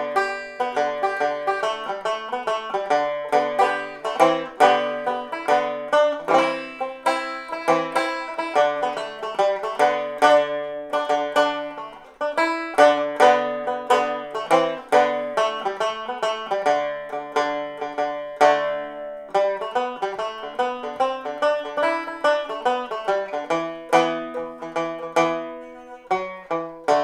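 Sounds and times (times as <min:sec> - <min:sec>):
banjo folk tune: 0:00.0 - 0:27.0.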